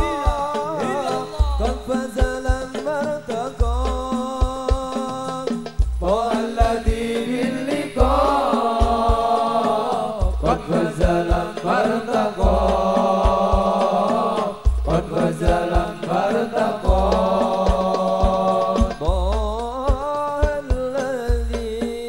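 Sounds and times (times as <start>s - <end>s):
devotional singing with held notes: 0.0s - 22.0s
frame drum beats: 0.0s - 22.0s.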